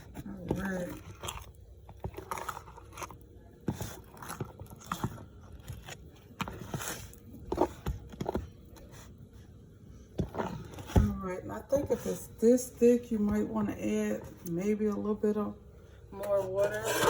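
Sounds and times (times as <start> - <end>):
thick batter being stirred: 0.0 - 14.5, 16.3 - 17.0.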